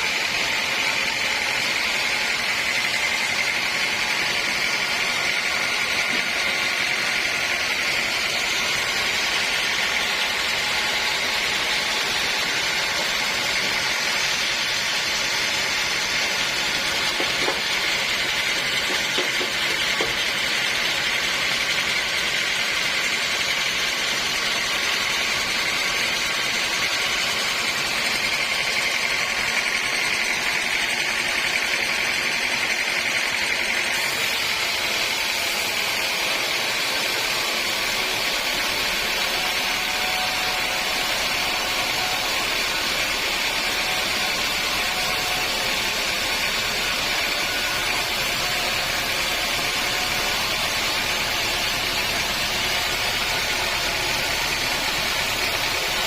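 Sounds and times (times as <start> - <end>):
sawmill saw whining: 0.0 - 56.0.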